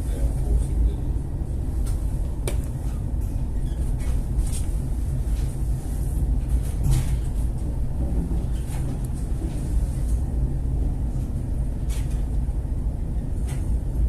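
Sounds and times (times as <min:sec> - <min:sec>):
ship engine rumble: 0:00.0 - 0:14.0.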